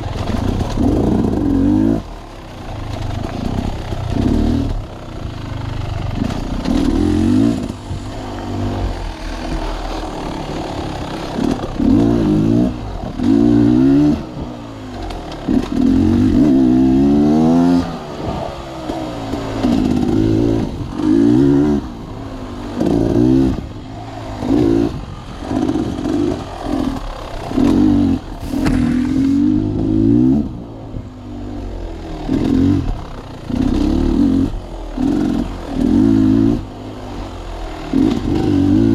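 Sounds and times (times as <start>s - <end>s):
clatter: 0.0s - 21.9s, 22.6s - 38.9s.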